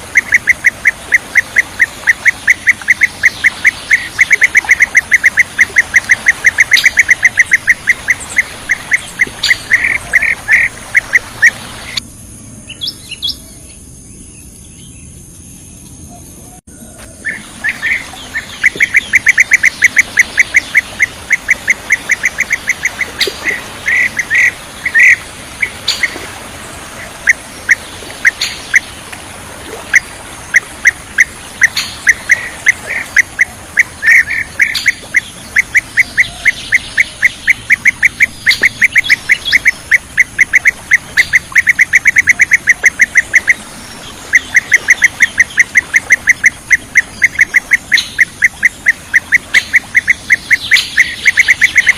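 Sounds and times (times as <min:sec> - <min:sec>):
bird calls rapid repeated notes: 0:00.0 - 0:12.0, 0:17.2 - 0:51.9.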